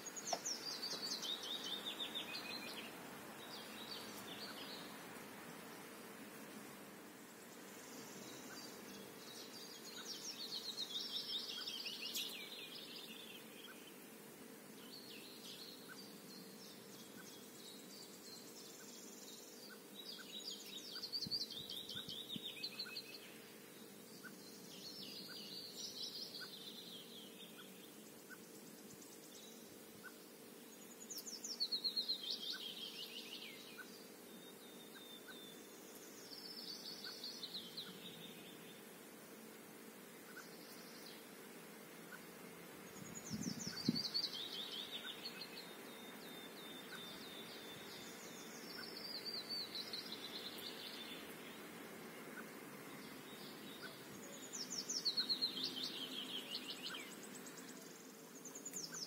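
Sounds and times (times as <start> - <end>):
faint steady hum: 0.0 - 59.0
songbird singing: 0.0 - 59.0.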